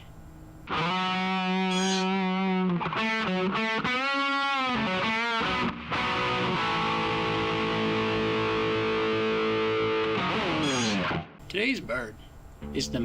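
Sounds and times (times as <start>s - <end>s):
distorted electric guitar riff: 0.6s - 11.4s, 12.6s - 13.0s.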